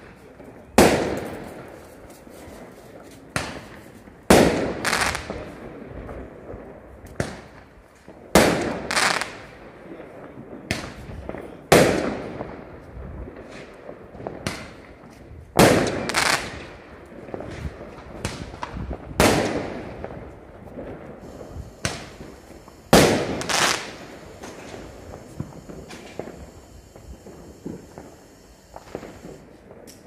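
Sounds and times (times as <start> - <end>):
firework pops and crackles: 0.0 - 30.0
fireworks bangs: 0.0 - 30.0.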